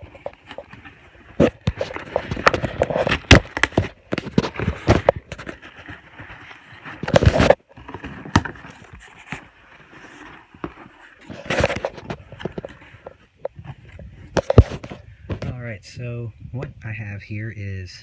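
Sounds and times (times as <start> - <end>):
cardboard rustling and scraping: 0.0 - 15.6.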